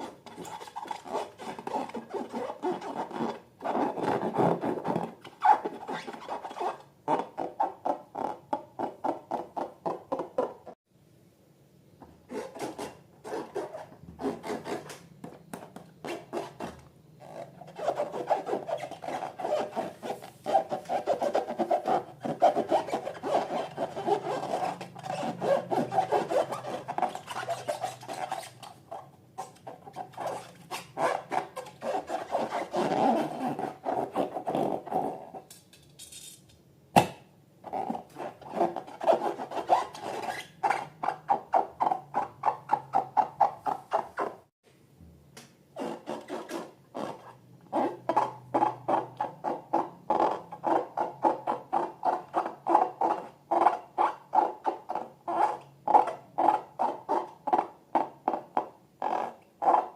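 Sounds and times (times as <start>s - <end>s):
hands rubbing squeaking balloons: 0.0s - 10.7s, 12.3s - 35.5s, 37.6s - 44.4s, 45.8s - 59.9s.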